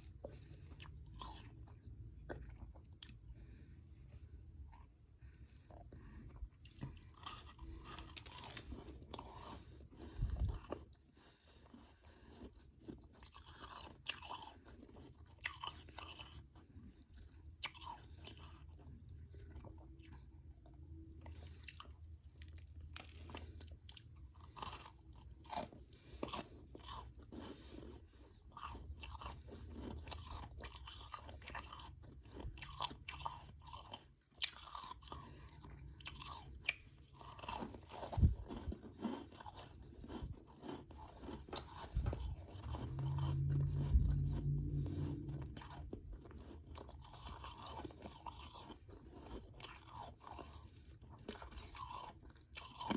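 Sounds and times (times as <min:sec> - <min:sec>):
chewing and crunching ice: 0:00.0 - 0:52.9.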